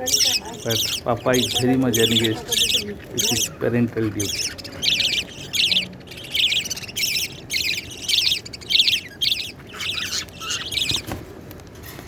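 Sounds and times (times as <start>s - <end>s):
budgies chirping: 0.0s - 11.3s.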